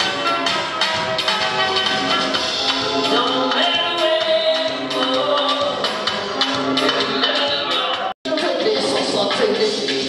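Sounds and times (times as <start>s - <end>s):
dance music with percussion beat: 0.0s - 10.0s.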